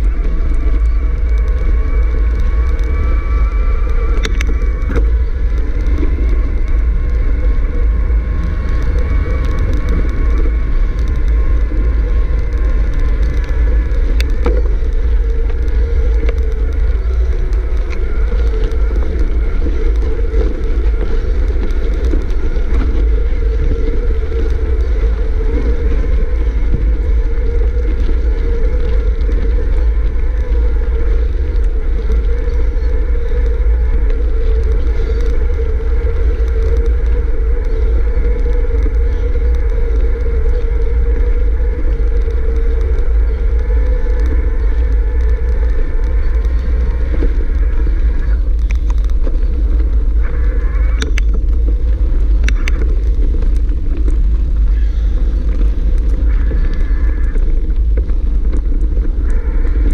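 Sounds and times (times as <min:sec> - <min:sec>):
bike tyres rolling on dirt trail: 0:00.0 - 0:59.9
wind rumble on microphone: 0:00.0 - 0:59.9.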